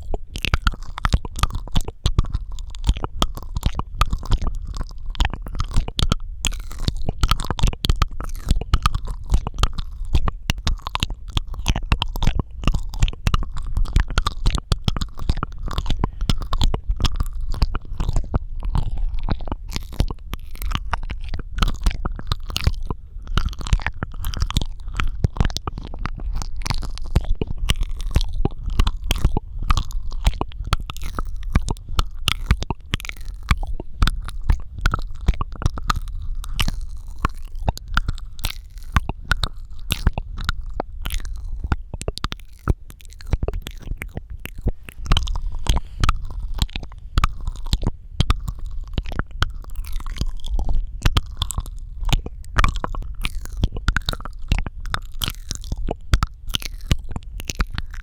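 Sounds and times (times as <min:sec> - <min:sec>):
steady low rumble: 0:00.0 - 0:58.0
wet mouth clicks and smacks: 0:00.0 - 0:58.0.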